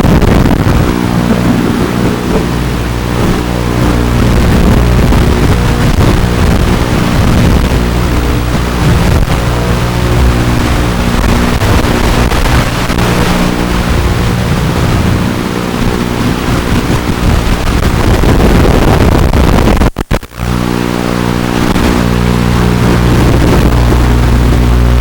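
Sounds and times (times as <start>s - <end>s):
quadcopter motors humming: 0.0s - 18.3s, 20.3s - 25.0s
wind noise on microphone: 0.0s - 25.0s.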